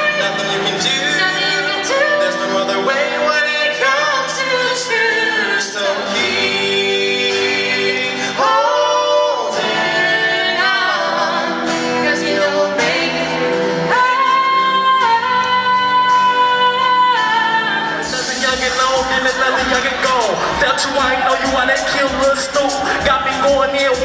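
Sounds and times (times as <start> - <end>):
acoustic guitar strumming: 0.0 - 24.0
man and woman singing duet: 0.0 - 24.0.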